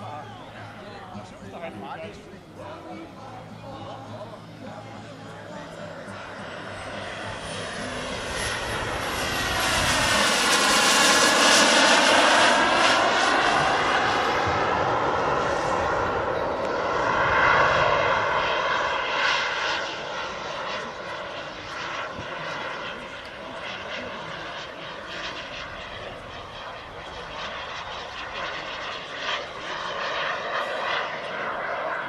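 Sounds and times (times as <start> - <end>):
model jet roar and whine: 0.0 - 32.0.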